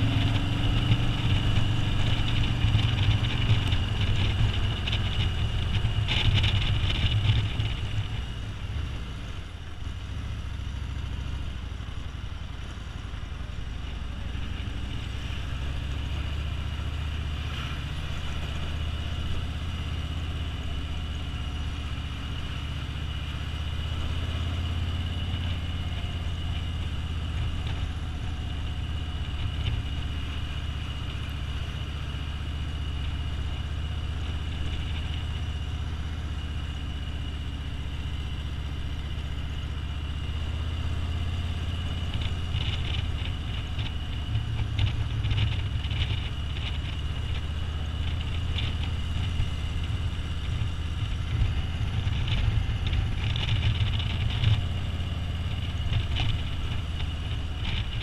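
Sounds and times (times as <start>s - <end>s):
motorcycle engine droning: 0.0s - 58.0s
wind and road noise: 0.0s - 58.0s.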